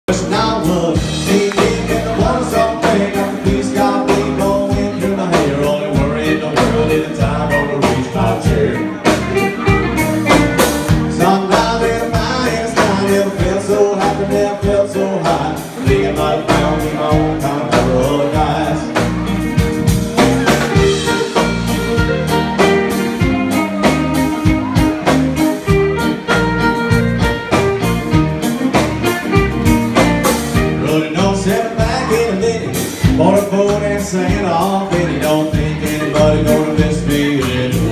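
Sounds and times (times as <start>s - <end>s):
live band playing amplified music: 0.0s - 37.9s
person singing: 0.1s - 10.0s, 10.6s - 26.4s, 30.6s - 37.9s
guitars: 0.1s - 37.9s
steady drum beat: 0.1s - 37.9s.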